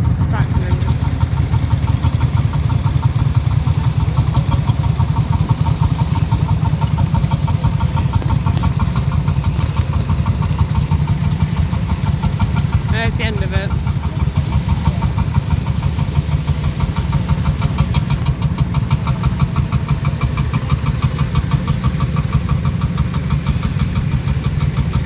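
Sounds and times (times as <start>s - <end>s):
combustion engine idling: 0.0s - 25.0s.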